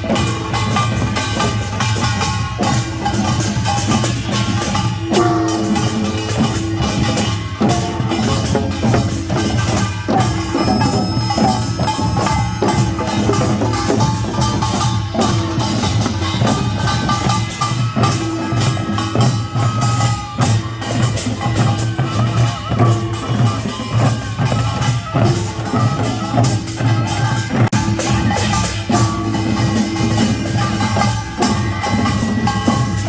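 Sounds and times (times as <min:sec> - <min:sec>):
drums beating driving rhythm: 0:00.0 - 0:33.0
held instrumental tones: 0:00.0 - 0:33.0.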